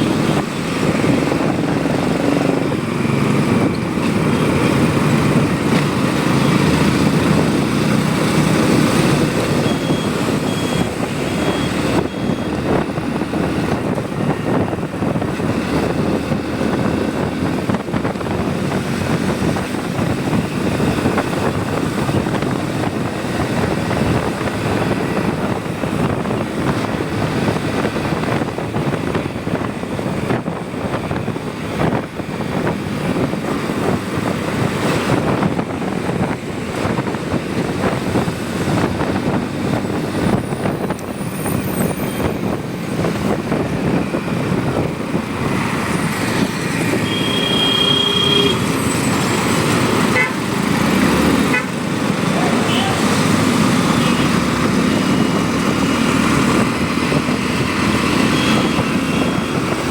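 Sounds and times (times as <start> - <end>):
motorcycle engine: 0.0 - 59.9
road noise: 0.0 - 59.9
wind on microphone: 0.0 - 59.9.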